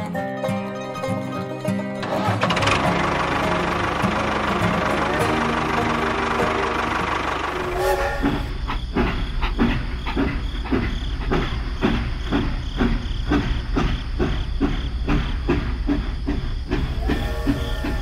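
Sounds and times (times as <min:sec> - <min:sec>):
toy steam locomotive chuffing: 0:02.0 - 0:18.0.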